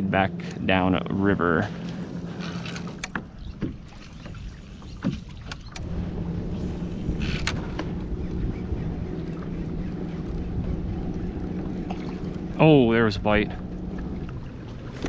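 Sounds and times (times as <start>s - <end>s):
water moving along hull: 0.0s - 15.0s
pedal drive propeller whirring: 0.4s - 15.0s.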